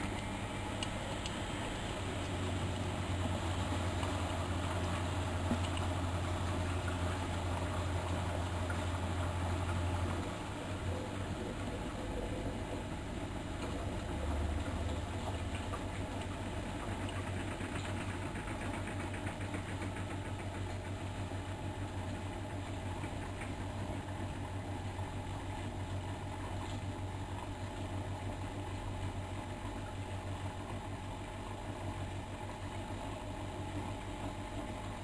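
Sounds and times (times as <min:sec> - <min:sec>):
washing machine running: 0:00.0 - 0:35.0.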